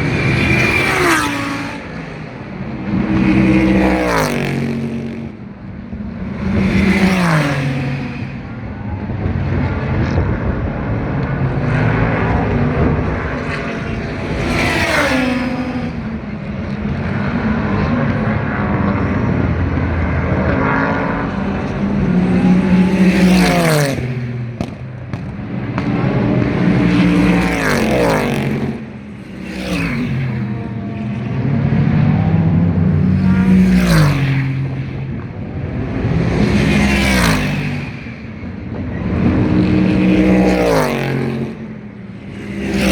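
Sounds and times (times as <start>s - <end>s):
car engines running: 0.0s - 42.9s
race cars passing at speed: 0.0s - 42.9s.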